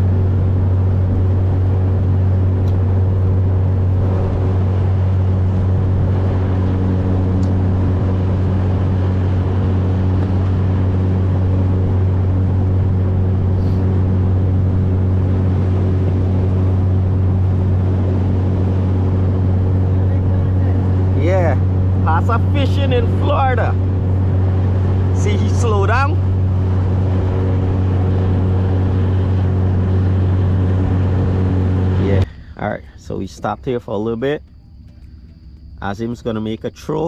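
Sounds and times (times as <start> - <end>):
boat rushing through water: 0.0 - 32.3
motorboat engine droning: 0.0 - 37.0.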